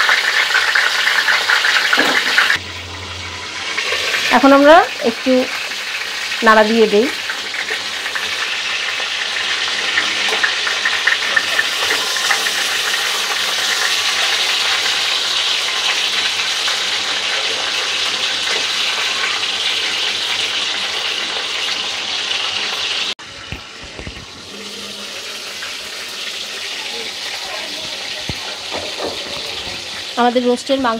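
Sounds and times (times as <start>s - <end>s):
chicken sizzling in hot oil: 0.0s - 30.9s.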